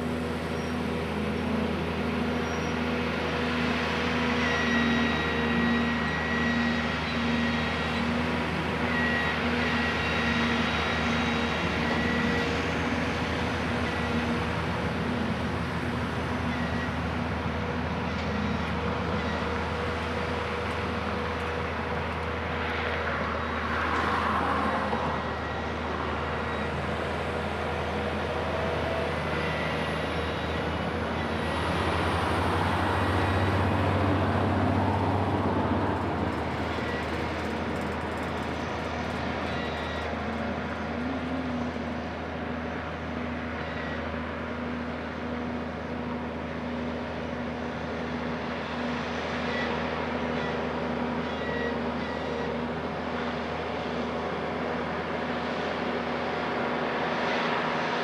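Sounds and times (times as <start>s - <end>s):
diesel engines droning: 0.0s - 58.0s.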